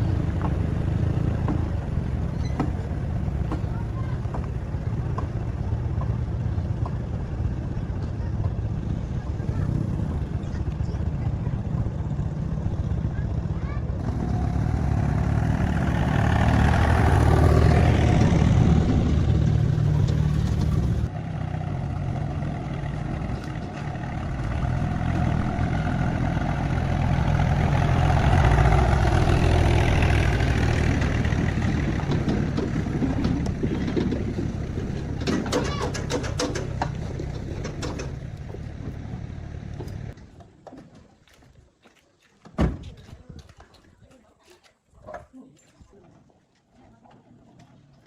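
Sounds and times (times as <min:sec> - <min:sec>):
motor running low rumble: 0:00.0 - 0:40.2.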